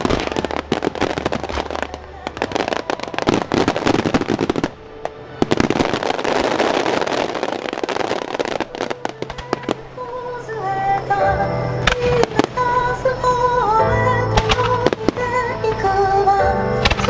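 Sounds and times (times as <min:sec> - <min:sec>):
fireworks crackling: 0:00.0 - 0:17.0
music with sustained notes: 0:00.0 - 0:17.0.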